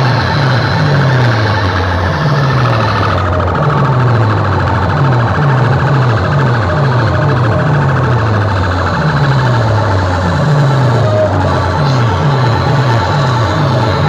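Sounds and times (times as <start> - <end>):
deep bass tone sweeping downward: 0.0 - 14.0
distorted loud sound system: 0.0 - 14.0.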